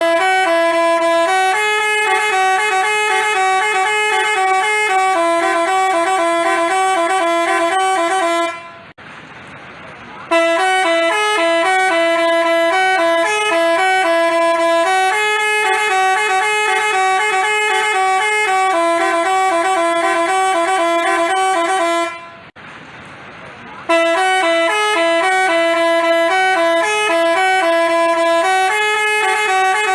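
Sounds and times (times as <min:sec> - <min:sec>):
multi-tone horn playing a melody: 0:00.0 - 0:08.9, 0:10.3 - 0:22.5, 0:23.9 - 0:29.9.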